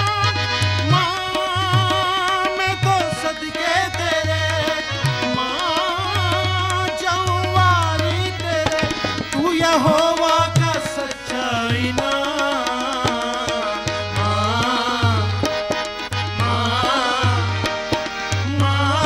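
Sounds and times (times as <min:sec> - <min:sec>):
hand drums playing rhythm: 0:00.0 - 0:19.0
harmonium: 0:00.0 - 0:19.0
man singing devotional song: 0:00.0 - 0:19.0.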